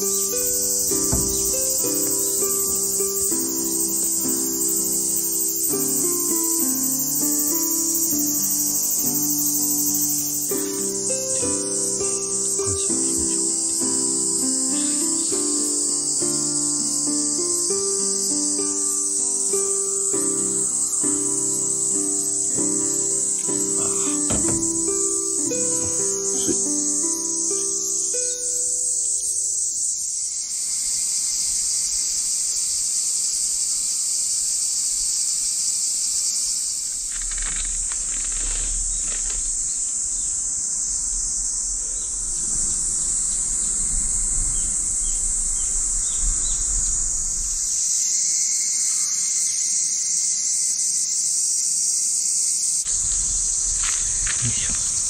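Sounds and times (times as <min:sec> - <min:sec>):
cicadas droning: 0:00.0 - 0:55.0.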